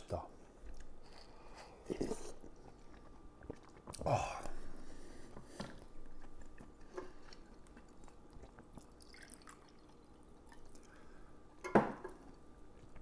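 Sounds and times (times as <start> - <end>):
faint chewing: 0.3 - 11.3, 12.1 - 13.0.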